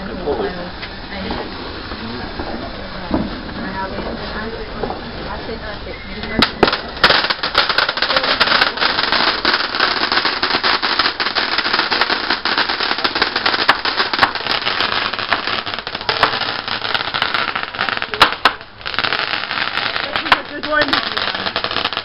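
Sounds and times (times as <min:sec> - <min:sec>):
loud firework crack: 0:00.0 - 0:05.2, 0:06.2 - 0:22.0
fireworks crackling pops: 0:00.0 - 0:05.4, 0:06.2 - 0:22.0.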